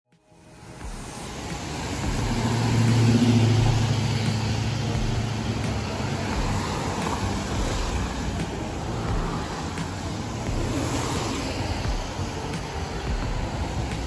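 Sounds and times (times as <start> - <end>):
road noise: 0.1 - 14.0
car engine hum: 0.2 - 14.0.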